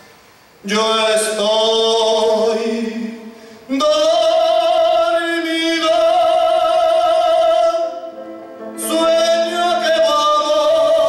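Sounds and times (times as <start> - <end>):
man singing held notes: 0.6 - 11.0.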